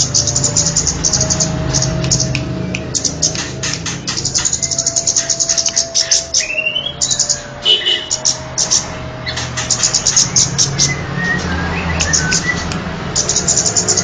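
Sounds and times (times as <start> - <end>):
ticking bird chatter: 0.0 - 14.0
bird whistles: 0.1 - 14.0.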